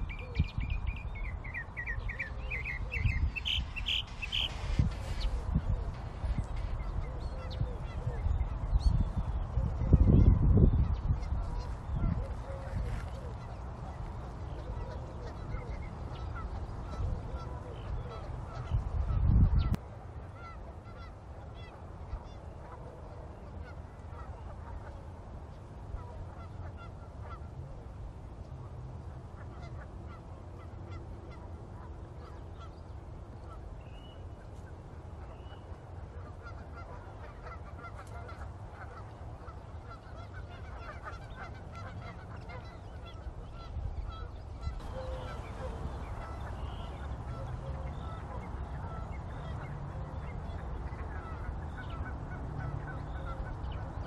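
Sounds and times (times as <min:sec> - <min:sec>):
birds calling: 0:00.0 - 0:21.1, 0:29.6 - 0:54.0.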